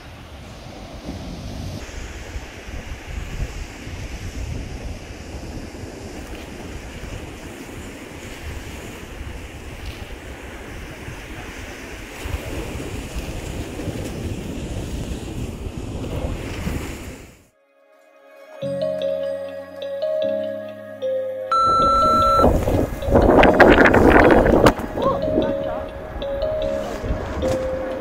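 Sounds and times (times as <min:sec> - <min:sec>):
surf washing onto beach: 0:00.0 - 0:17.5, 0:21.5 - 0:28.0
wind buffeting microphone: 0:00.0 - 0:17.5, 0:21.6 - 0:28.0.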